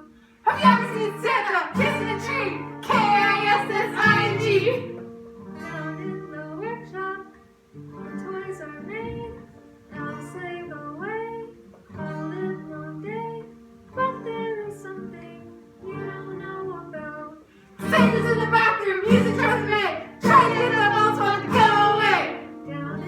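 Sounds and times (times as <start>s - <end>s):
acoustic guitar chords: 0.0s - 23.0s
child singing: 0.5s - 5.0s, 5.6s - 7.3s, 8.2s - 23.0s.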